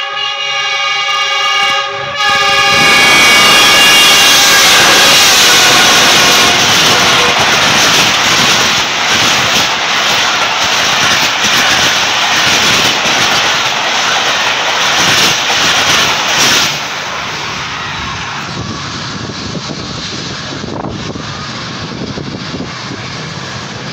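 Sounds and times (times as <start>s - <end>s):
train rumbling on rails: 0.0s - 23.9s.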